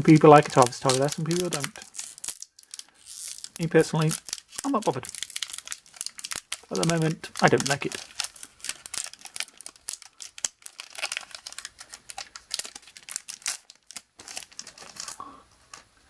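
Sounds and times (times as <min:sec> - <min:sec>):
plastic foil wrapper crinkling: 0:00.0 - 0:16.0.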